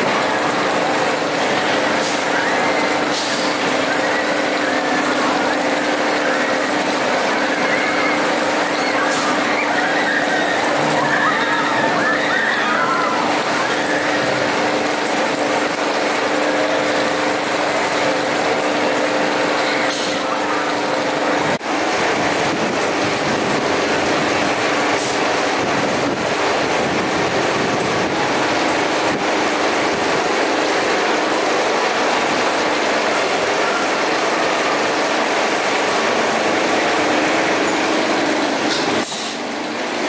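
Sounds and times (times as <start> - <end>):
roller coaster machinery clatter: 0.0 - 40.0.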